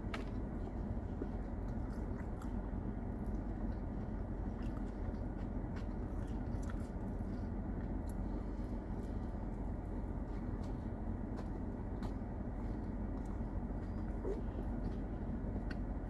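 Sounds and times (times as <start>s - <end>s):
car air conditioning rush: 0.0s - 16.0s
chewing sandwich: 0.0s - 16.0s.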